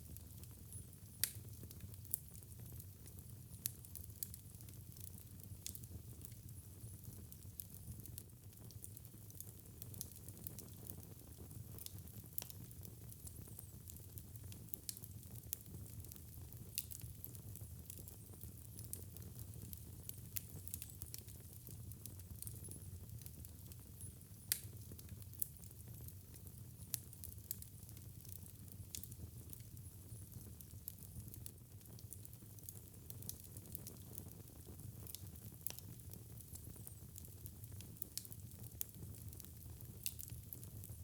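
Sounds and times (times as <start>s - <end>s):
fire crackles and pops: 0.0s - 41.0s.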